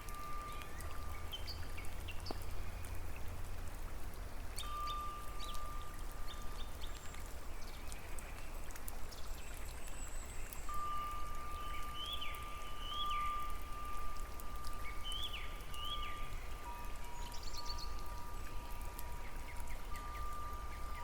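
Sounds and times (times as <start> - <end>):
water dripping and trickling: 0.0 - 21.0.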